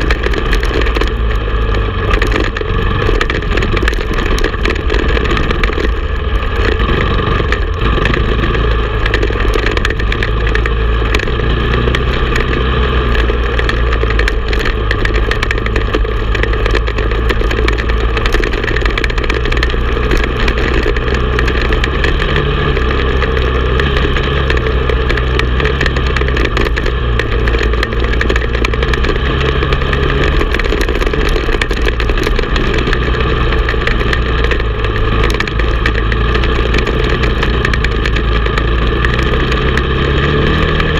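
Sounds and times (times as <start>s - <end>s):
atv engine running under load: 0.0s - 40.9s.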